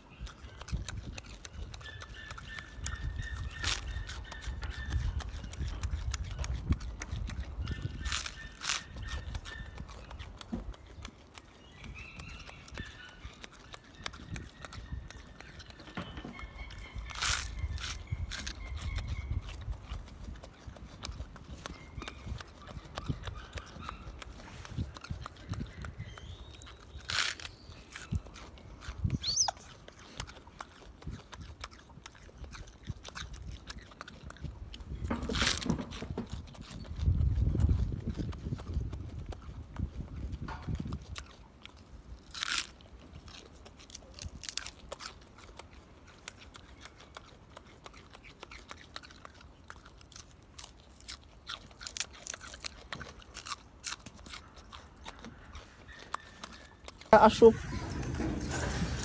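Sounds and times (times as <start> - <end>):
monkeys chewing food: 0.0 - 59.0.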